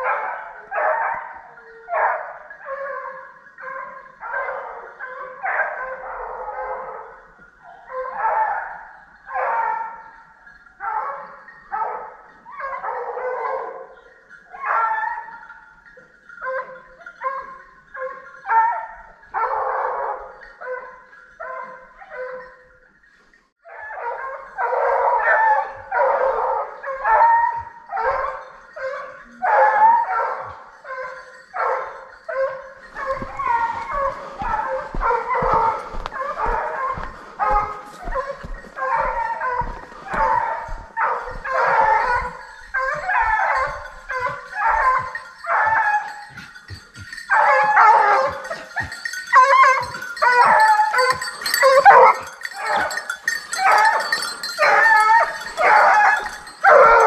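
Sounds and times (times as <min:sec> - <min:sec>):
hounds baying: 0:00.0 - 0:57.0.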